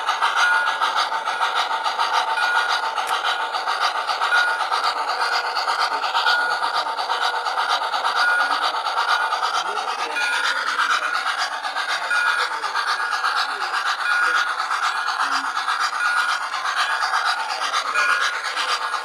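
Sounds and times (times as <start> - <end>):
model train wheels and motor: 0.0 - 19.0.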